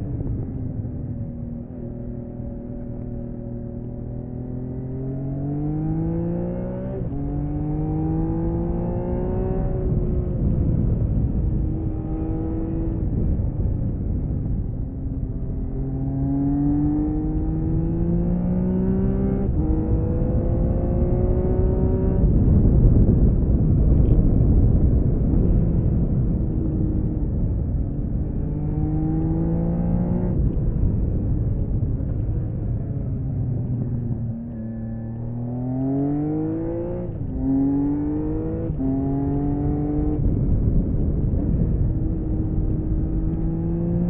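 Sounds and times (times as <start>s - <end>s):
motorcycle engine accelerating: 0.0s - 44.0s
wind rush: 5.6s - 16.5s, 17.3s - 44.0s.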